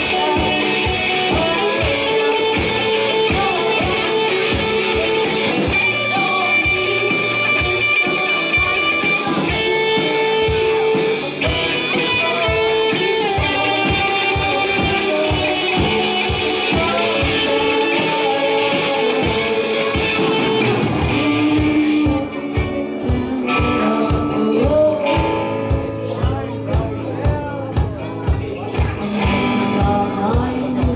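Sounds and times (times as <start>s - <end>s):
live rock band: 0.0s - 30.9s.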